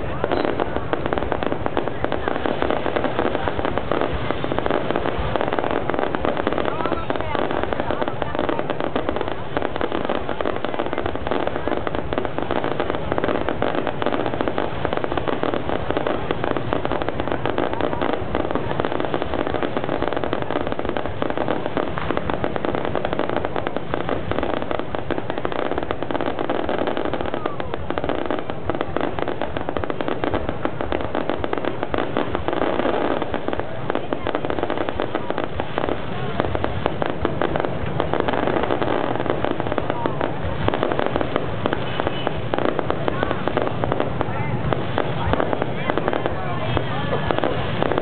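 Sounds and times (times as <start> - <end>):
fireworks crackling and popping: 0.0 - 48.0.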